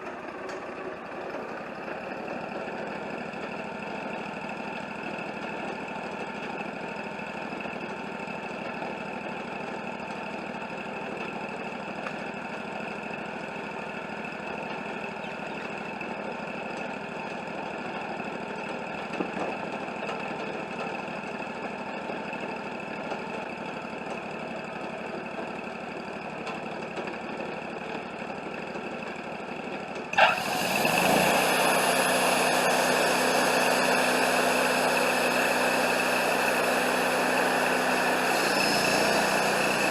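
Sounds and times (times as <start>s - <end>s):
sawmill engine running: 0.0s - 39.9s
sawmill rushing noise: 0.0s - 39.9s.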